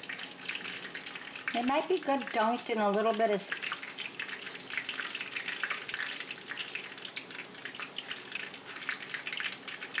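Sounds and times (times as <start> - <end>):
hot oil sizzling and popping: 0.0 - 10.0.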